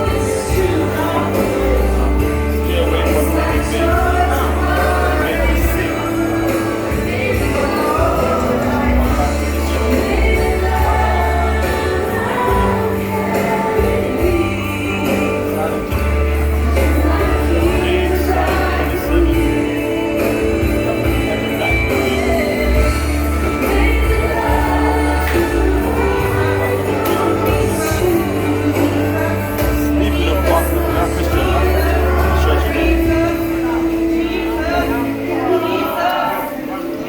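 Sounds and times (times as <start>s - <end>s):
band playing: 0.0s - 37.0s
people singing: 0.0s - 37.0s.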